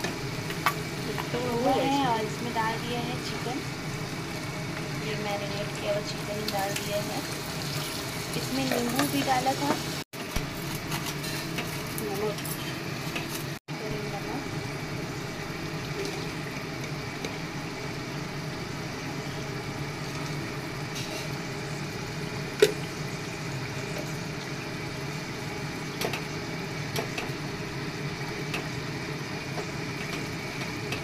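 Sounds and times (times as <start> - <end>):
chicken sizzling in hot oil: 0.0 - 31.0.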